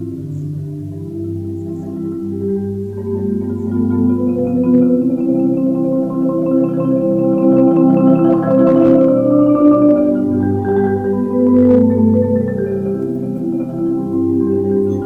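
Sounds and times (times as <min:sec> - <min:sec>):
melody over held chords: 0:00.0 - 0:15.0.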